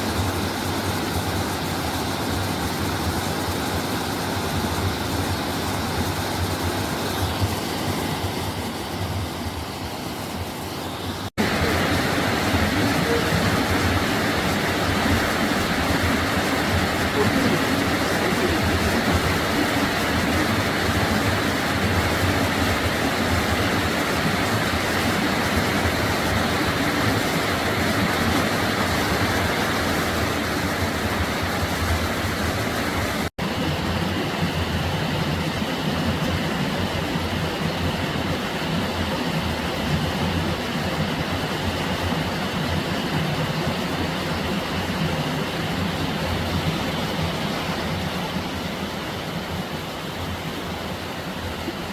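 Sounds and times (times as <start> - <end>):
stream rushing over rocks: 0.0 - 51.9.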